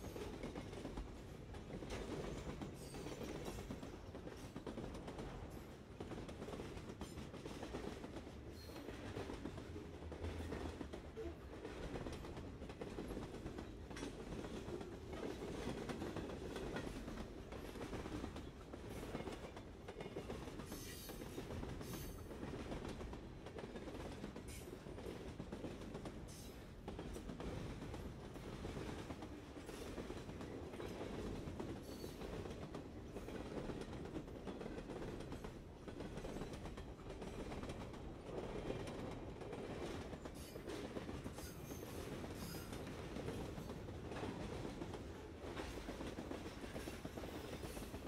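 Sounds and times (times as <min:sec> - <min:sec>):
train running on track: 0:00.0 - 0:48.0.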